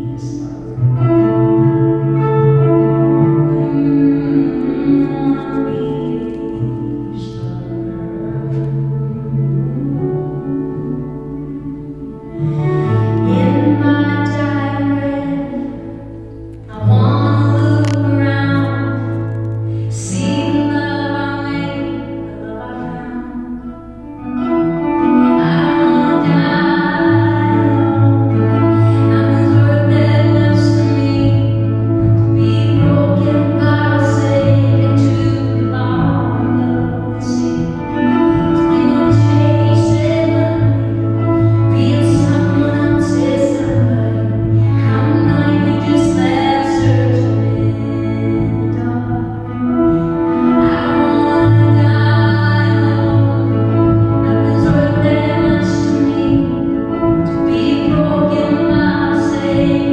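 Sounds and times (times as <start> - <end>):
guitar: 0.0 - 59.9
woman singing: 0.0 - 59.9.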